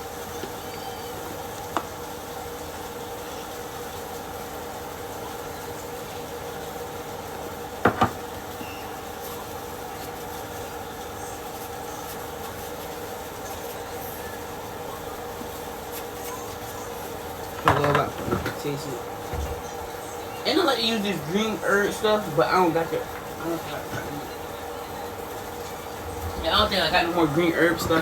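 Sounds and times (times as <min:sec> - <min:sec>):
exhaust fan humming: 0:00.0 - 0:28.0.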